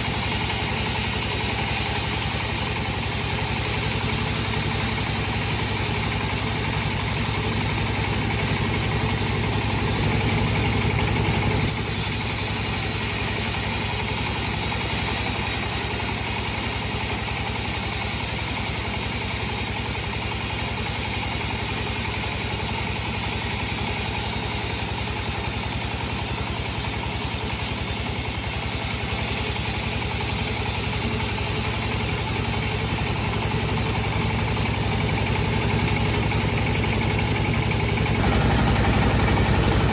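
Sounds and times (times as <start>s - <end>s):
bandsaw machinery humming: 0.0s - 4.0s, 5.0s - 30.9s, 33.0s - 39.9s.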